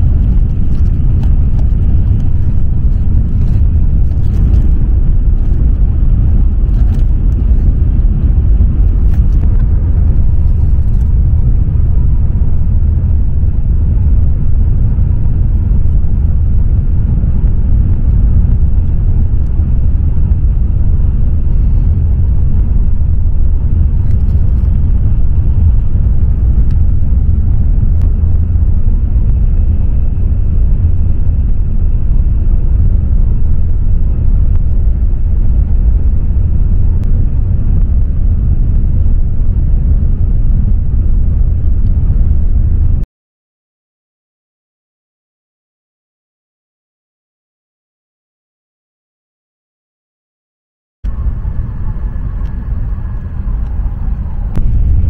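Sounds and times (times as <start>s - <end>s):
train cabin rumble: 0.0s - 42.8s, 51.1s - 55.0s.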